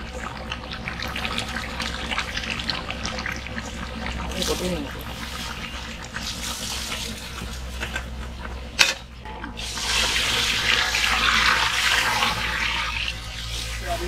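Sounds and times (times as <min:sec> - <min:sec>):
water pouring: 0:00.0 - 0:08.4, 0:09.5 - 0:14.0.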